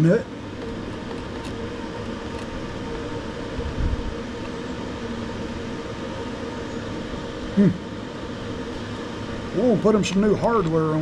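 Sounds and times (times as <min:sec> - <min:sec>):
faint steady tones: 0:00.0 - 0:11.0
machine hum: 0:00.0 - 0:11.0.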